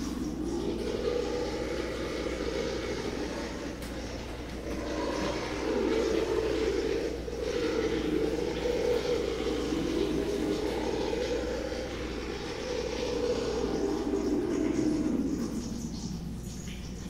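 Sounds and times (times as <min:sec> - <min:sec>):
rough rumbling electronic drone: 0:00.0 - 0:17.0.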